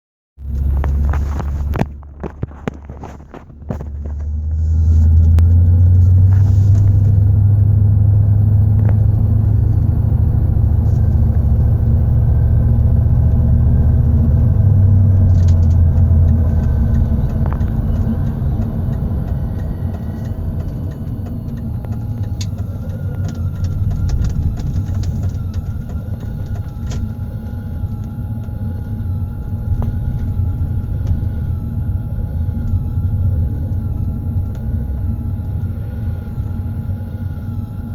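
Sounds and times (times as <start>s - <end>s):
car engine and road rumble: 0.4s - 37.9s.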